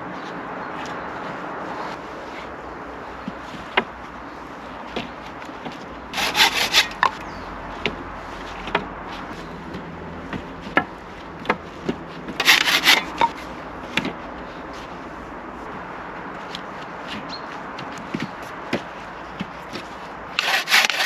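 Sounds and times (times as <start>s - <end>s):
wood scraping strokes: 0.2s - 15.7s, 16.6s - 21.0s.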